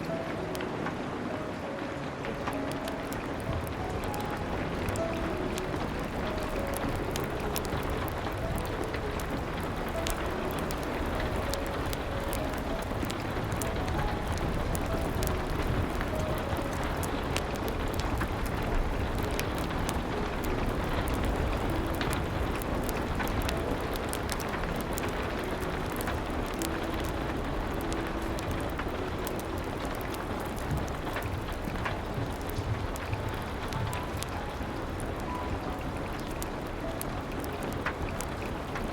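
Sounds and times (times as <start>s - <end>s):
soft piano notes: 0.0s - 38.9s
steady rain: 0.0s - 38.9s
wood fire crackling: 0.0s - 38.9s.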